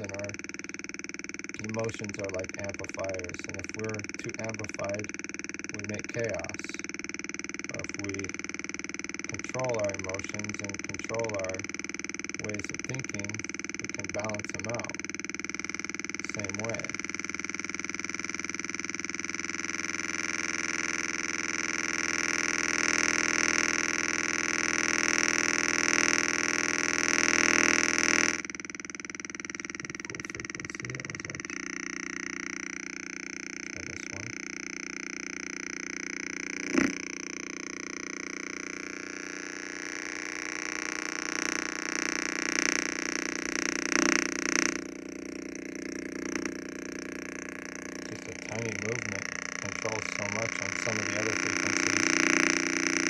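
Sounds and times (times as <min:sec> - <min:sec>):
electronic buzz from loudspeaker: 0:00.0 - 0:53.0.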